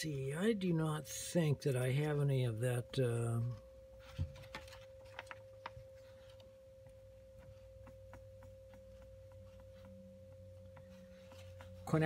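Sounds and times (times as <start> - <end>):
faint steady tone and hum: 0.0 - 12.0.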